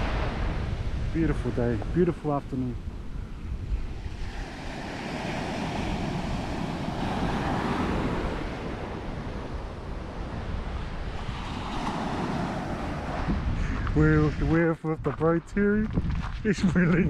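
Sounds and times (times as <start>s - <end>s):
ocean surf breaking on beach: 0.0s - 14.3s
wind rumbling on microphone: 0.0s - 17.0s.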